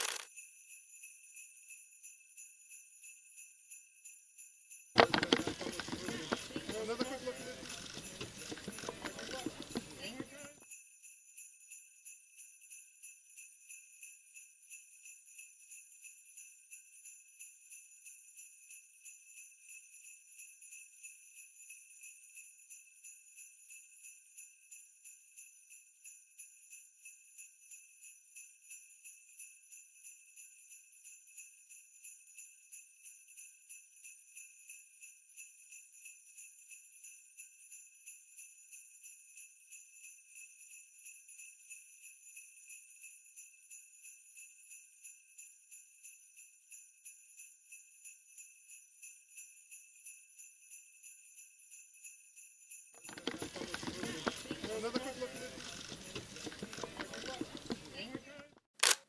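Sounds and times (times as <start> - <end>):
sleigh bells jingling: 0.0 - 58.5.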